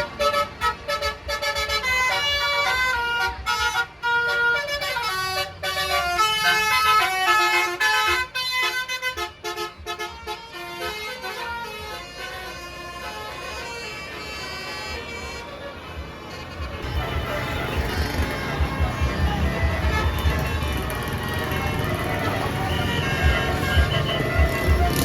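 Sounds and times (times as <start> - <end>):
multi-tone bus horn melody: 0.0 - 25.0.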